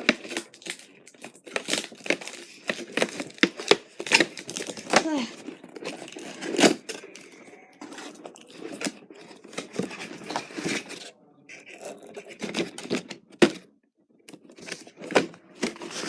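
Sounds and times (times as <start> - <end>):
packaging rustling and scraping: 0.0 - 13.6, 14.2 - 16.0.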